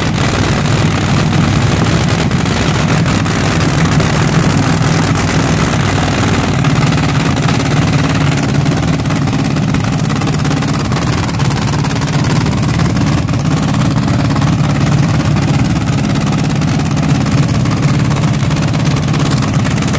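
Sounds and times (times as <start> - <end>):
dragster engines idling: 0.0 - 19.9.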